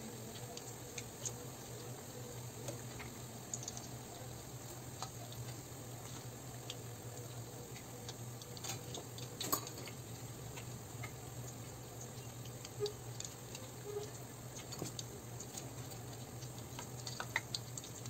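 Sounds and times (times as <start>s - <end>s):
oil sizzling and popping: 0.0s - 18.0s.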